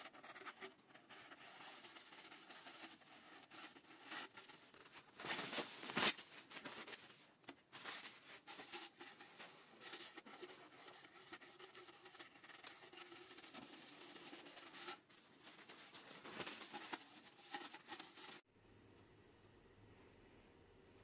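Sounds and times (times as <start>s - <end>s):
paper towel rustling in metal tube: 0.0s - 18.5s.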